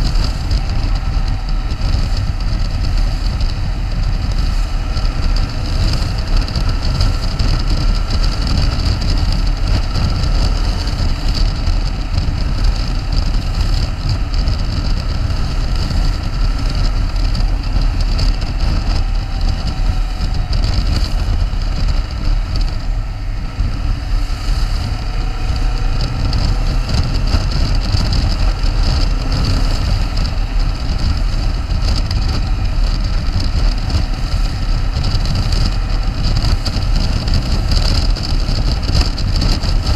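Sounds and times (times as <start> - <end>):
motorcycle engine and road rumble: 0.0 - 39.9
wind rush over microphone: 0.0 - 39.9.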